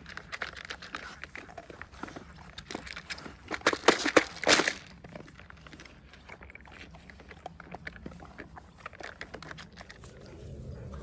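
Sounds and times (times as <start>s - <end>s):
dogs chewing: 0.0s - 11.0s.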